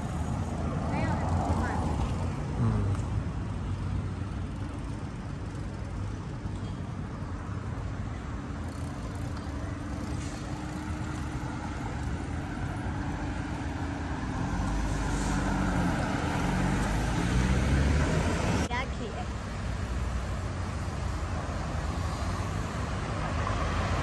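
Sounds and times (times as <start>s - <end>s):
cars passing on road: 0.0s - 24.0s.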